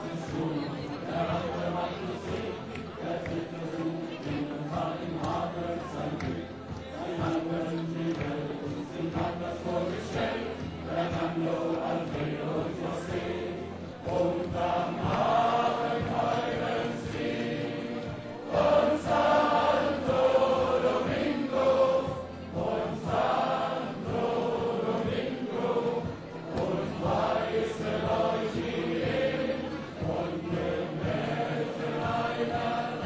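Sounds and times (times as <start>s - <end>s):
men singing in chorus: 0.0s - 33.0s.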